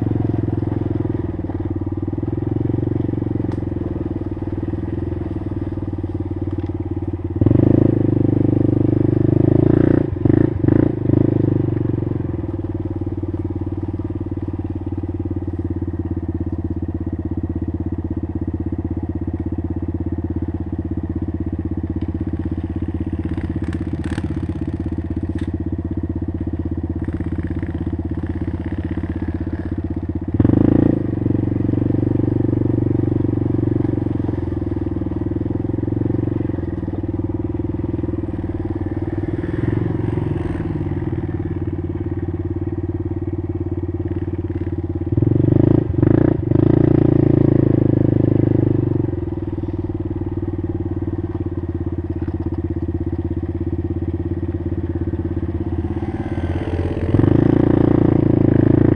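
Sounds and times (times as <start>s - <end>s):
atv engine running: 0.0s - 58.9s.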